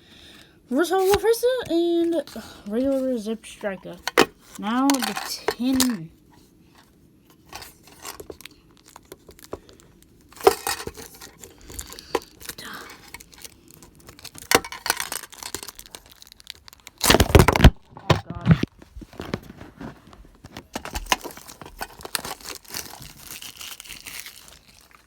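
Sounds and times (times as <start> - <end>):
shrink wrap tearing and crinkling: 0.9 - 6.0, 7.4 - 25.0.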